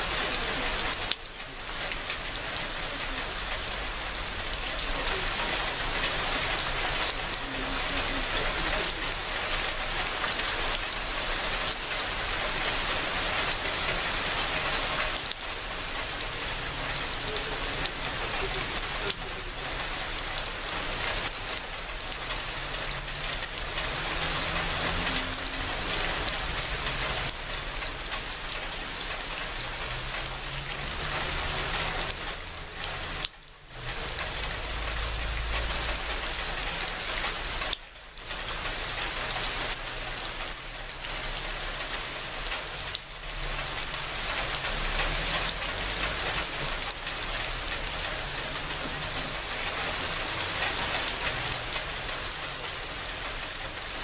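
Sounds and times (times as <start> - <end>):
steady rain falling: 0.0 - 54.0
water dripping off a roof: 0.0 - 54.0.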